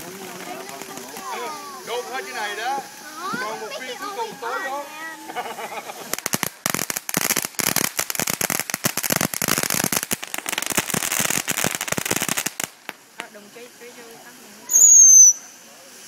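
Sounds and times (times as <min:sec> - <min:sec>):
fireworks crackling pops: 0:00.0 - 0:16.0
spark fountains hissing: 0:00.0 - 0:16.0.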